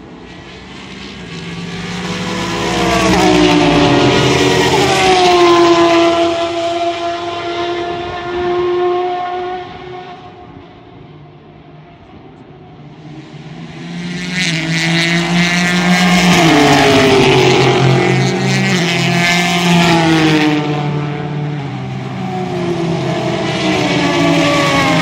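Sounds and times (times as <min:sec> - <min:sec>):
race cars passing by: 0:00.0 - 0:25.0.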